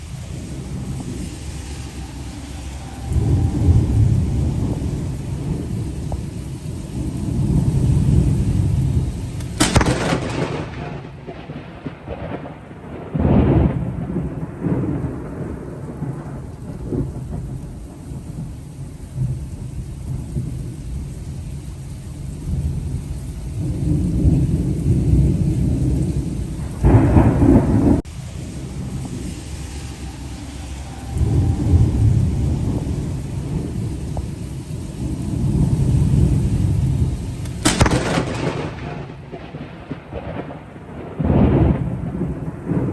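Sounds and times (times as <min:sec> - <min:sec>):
thunder crack: 0:00.0 - 0:21.1, 0:22.4 - 0:42.9
rain falling: 0:00.0 - 0:42.9
rolling thunder rumble: 0:00.0 - 0:42.9.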